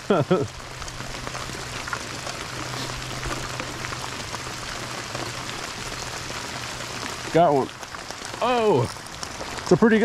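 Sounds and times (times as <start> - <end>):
rain hissing on lake and boat: 0.0 - 10.0.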